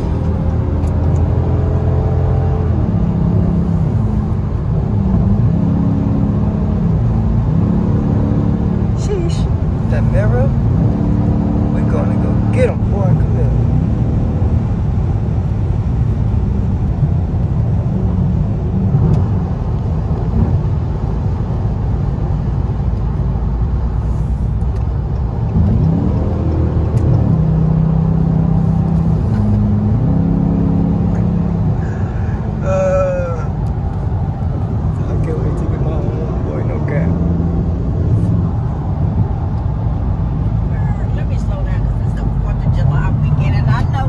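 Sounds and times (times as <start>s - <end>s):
car engine drone: 0.0s - 44.0s.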